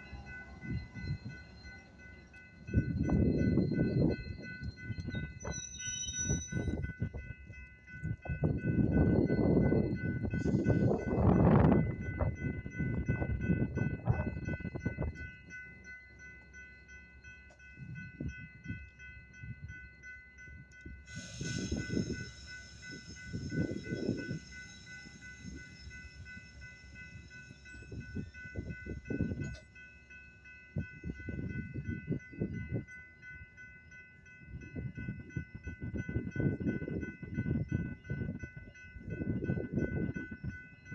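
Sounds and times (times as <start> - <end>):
railroad crossing bell ringing: 0.0 - 40.9
train wheel and rail noise: 0.0 - 40.9.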